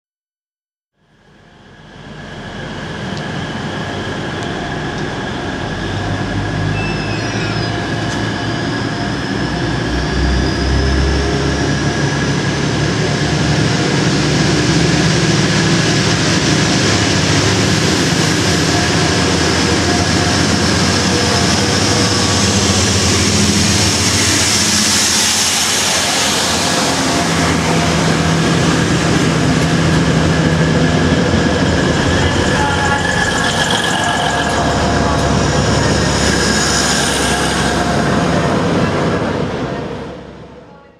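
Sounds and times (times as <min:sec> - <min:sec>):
diesel train engines with high whine: 0:01.0 - 0:40.9.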